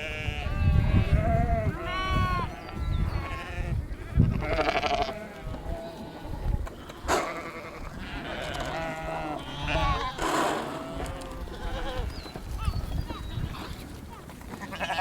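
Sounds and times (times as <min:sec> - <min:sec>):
sheep bleating: 0:00.0 - 0:12.1, 0:14.6 - 0:15.0.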